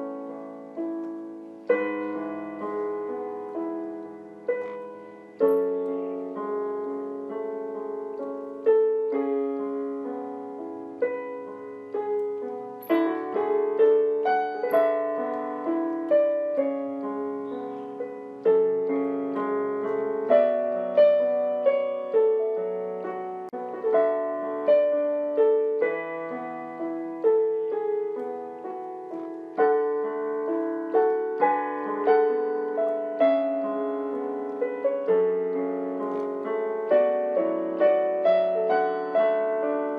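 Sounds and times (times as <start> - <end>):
solo piano music: 0.0 - 39.9.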